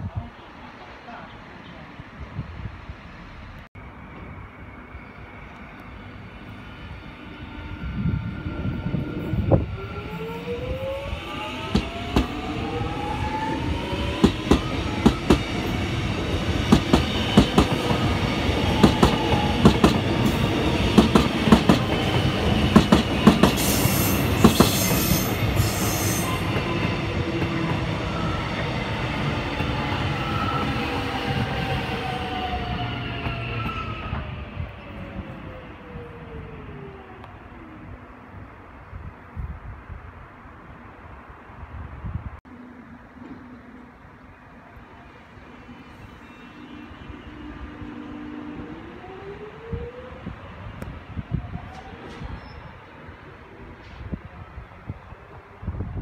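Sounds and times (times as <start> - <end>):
train passing: 0.0 - 56.0
train whine: 0.0 - 56.0.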